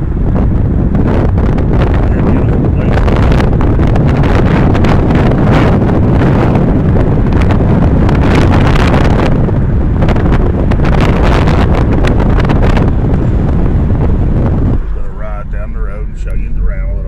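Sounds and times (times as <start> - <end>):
car road rumble: 0.0 - 17.0
wind buffeting microphone: 0.0 - 17.0.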